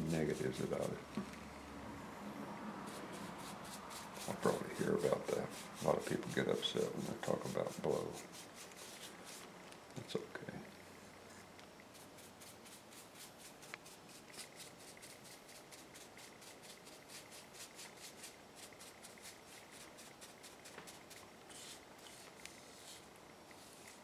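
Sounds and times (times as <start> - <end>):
brush scratching on wood: 0.0 - 1.0, 2.8 - 9.5, 11.9 - 24.0.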